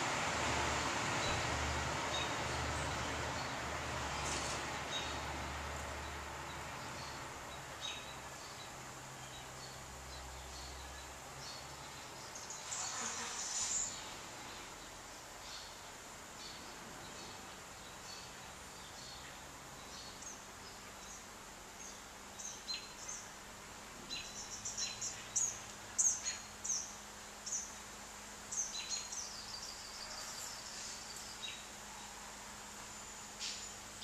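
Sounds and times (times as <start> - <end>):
outdoor background hiss: 0.0 - 34.0
small birds chirping: 1.2 - 23.4, 24.0 - 32.3.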